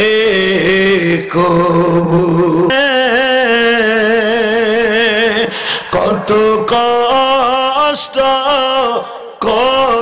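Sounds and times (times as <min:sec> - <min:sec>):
man singing a slow lament: 0:00.0 - 0:10.0.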